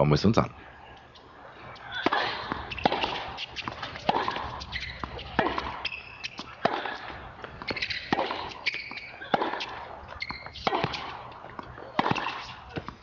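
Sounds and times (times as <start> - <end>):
racket striking tennis ball: 1.0 - 13.0
ball bouncing on court: 1.7 - 13.0.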